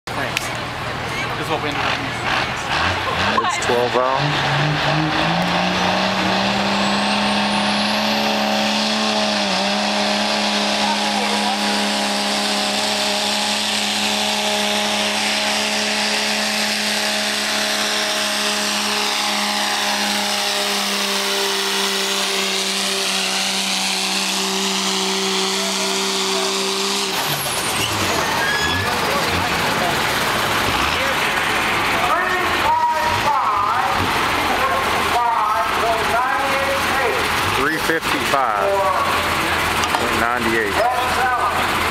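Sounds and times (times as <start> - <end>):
diesel engine droning at high revs: 0.1 - 41.9.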